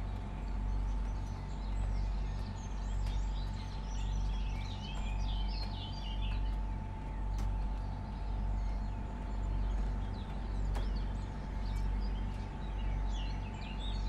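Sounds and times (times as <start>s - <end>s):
low mechanical hum: 0.0s - 14.0s
small birds chirping: 0.0s - 14.0s.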